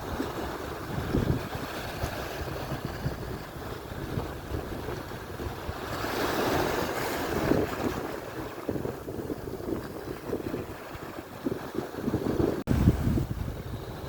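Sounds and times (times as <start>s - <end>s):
surf washing onto shore: 0.0s - 14.0s
wind rumbling on microphone: 0.0s - 14.0s.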